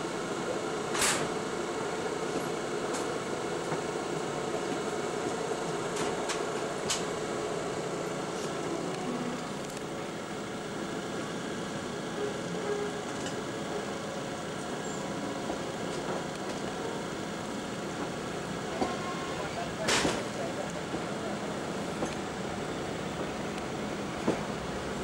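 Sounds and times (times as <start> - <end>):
train mechanical hum: 0.0 - 25.0.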